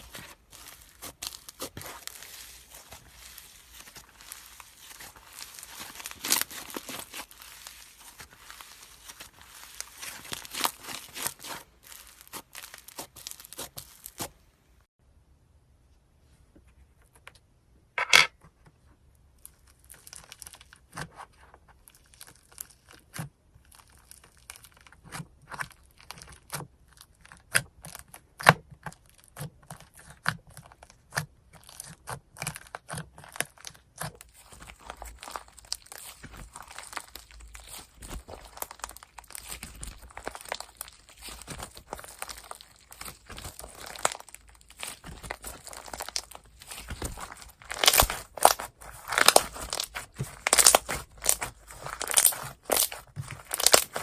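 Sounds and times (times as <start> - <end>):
slime crackling and popping: 0.0 - 14.4, 19.4 - 54.0.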